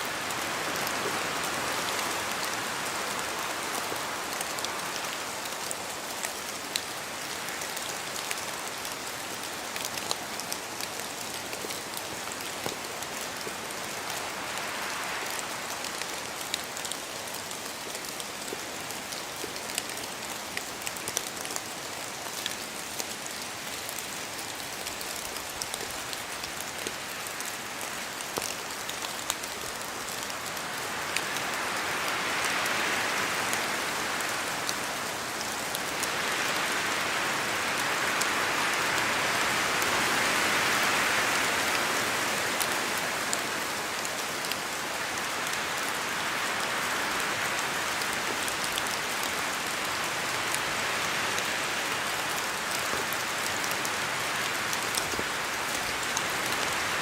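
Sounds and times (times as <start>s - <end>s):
steady rain in forest: 0.0s - 57.0s
wind gusts through trees: 0.0s - 57.0s.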